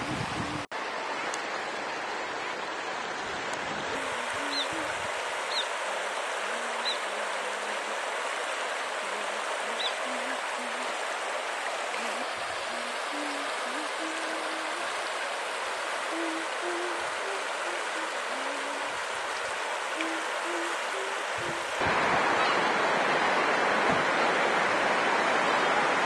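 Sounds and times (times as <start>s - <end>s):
river rushing over stones: 0.0s - 26.0s.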